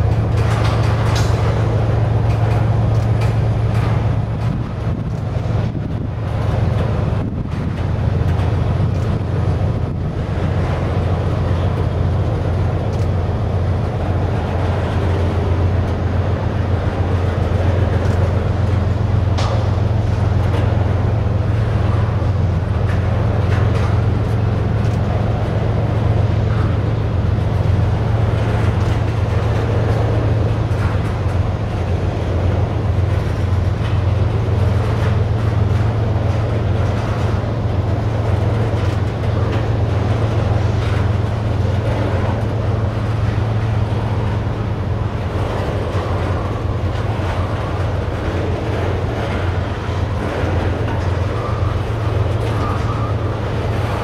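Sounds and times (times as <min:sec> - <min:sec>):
train wheels rumbling on rails: 0:00.0 - 0:54.0
wheel clicks on rail joints: 0:00.0 - 0:54.0.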